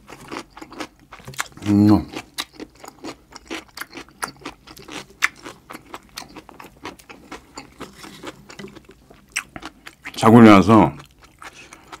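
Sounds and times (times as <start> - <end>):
wet chewing crunches: 0.0 - 10.3, 10.9 - 12.0.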